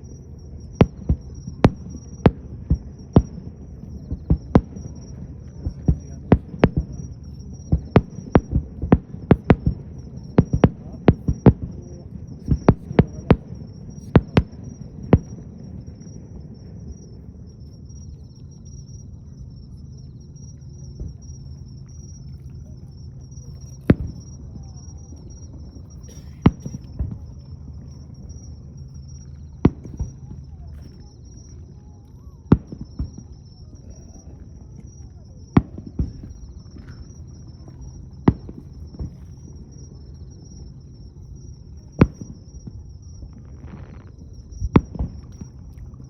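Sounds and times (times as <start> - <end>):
fireworks bangs: 0.0 - 16.8, 23.4 - 40.7, 41.8 - 45.7.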